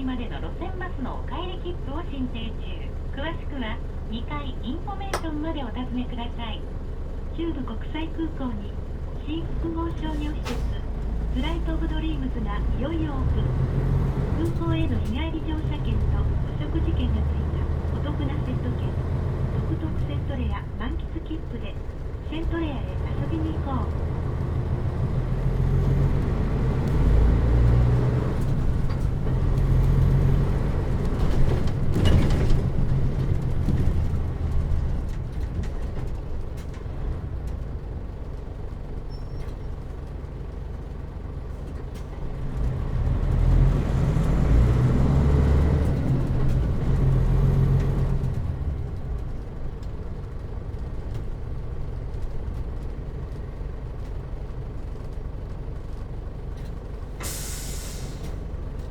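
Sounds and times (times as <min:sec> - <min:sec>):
bus diesel engine pulling away: 0:00.0 - 0:58.9.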